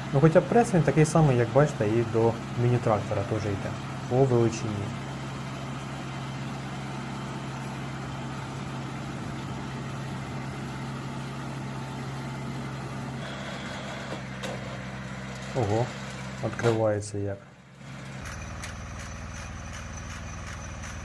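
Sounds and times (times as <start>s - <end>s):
small tractor engine running: 0.0s - 21.0s.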